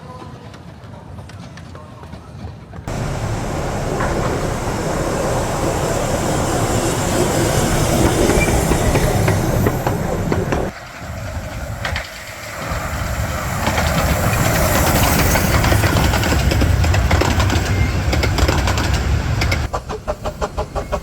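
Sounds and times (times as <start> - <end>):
steam train passing: 2.9 - 21.0
wheels rattling on rails: 2.9 - 21.0.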